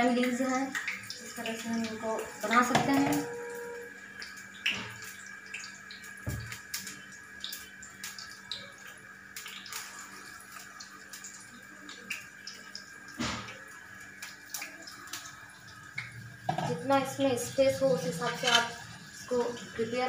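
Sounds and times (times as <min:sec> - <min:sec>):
leaves frying in oil: 0:00.0 - 0:20.0.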